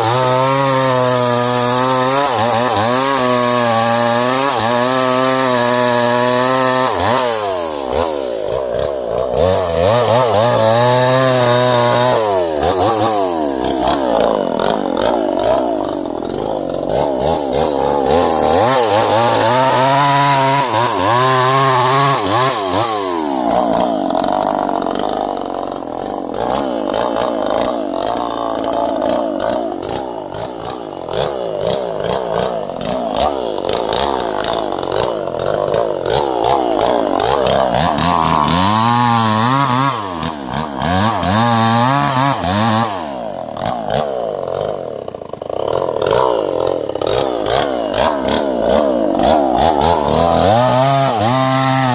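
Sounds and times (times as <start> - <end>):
chainsaw cutting wood: 0.0 - 51.9.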